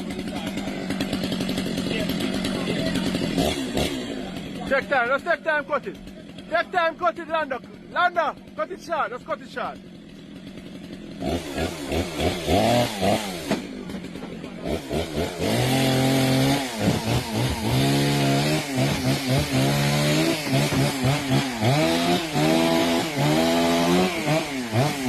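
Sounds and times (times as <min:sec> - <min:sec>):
chainsaw cutting: 0:00.0 - 0:25.0.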